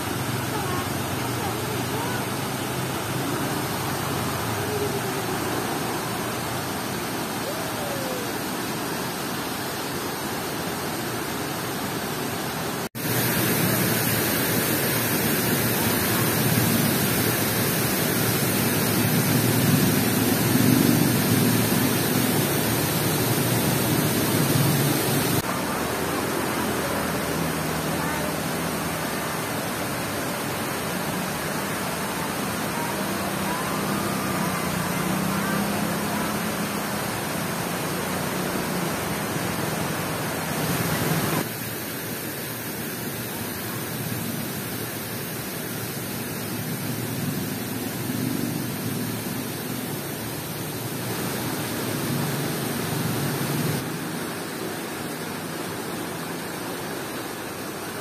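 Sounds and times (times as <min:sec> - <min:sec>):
water rushing over a weir: 0:00.0 - 0:58.0.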